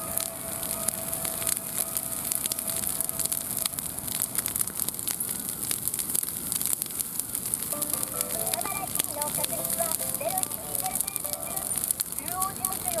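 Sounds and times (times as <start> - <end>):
bonfire crackling and popping: 0.0 - 13.0
fire hissing: 0.0 - 13.0.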